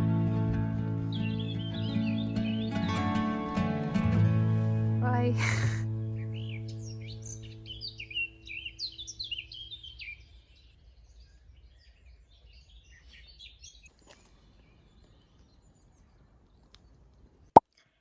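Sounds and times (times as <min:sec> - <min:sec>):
small birds chirping: 0:00.9 - 0:03.0, 0:05.4 - 0:18.0.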